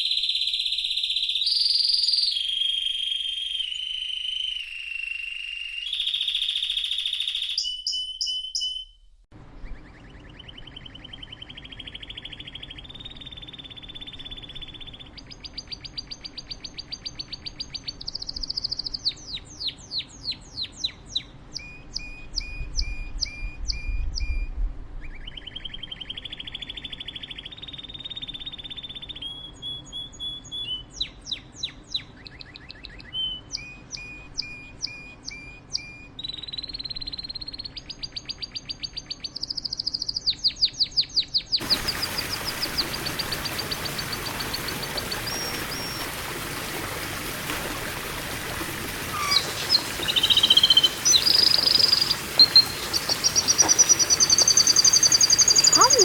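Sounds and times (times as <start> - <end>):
songbird singing trills: 0.0 - 9.0, 9.6 - 24.4, 25.0 - 46.2, 49.0 - 56.0.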